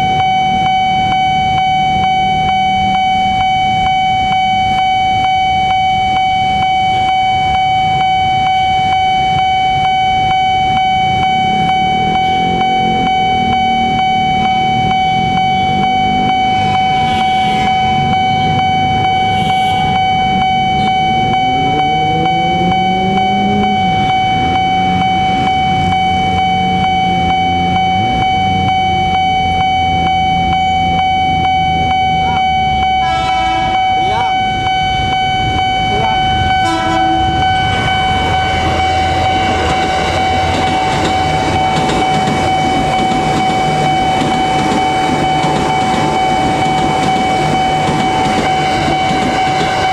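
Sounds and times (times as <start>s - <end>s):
level crossing alarm tone: 0.0s - 49.9s.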